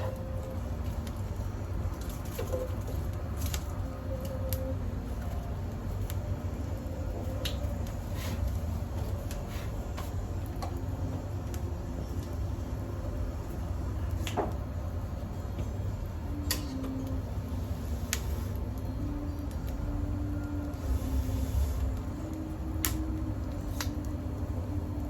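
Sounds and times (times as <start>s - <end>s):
fire popping: 0.0s - 25.0s
low steady rumble: 0.0s - 25.0s
twig fire crackling: 0.0s - 25.0s.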